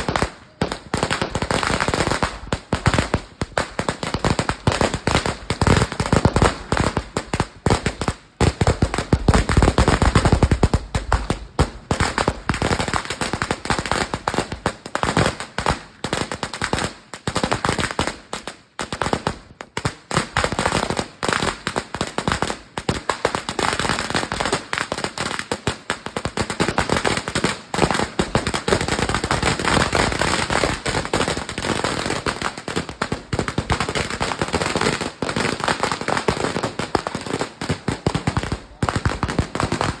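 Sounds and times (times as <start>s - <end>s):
firecracker belt crackling: 0.0s - 40.0s.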